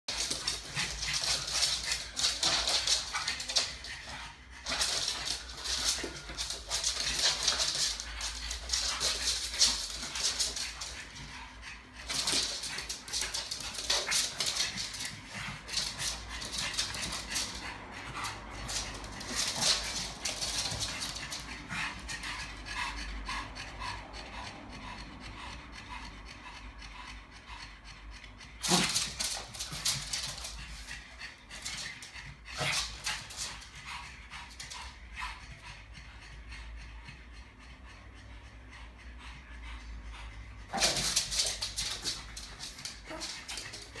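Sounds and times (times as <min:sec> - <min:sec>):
dogs panting and snuffling: 0:00.0 - 0:44.0.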